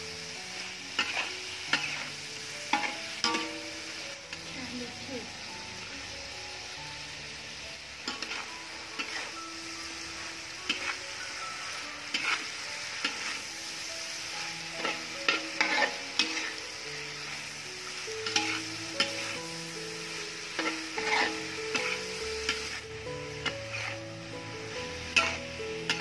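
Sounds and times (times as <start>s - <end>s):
oil sizzling: 0.0s - 26.0s
metal spatula scraping wok: 0.5s - 6.0s, 7.3s - 26.0s.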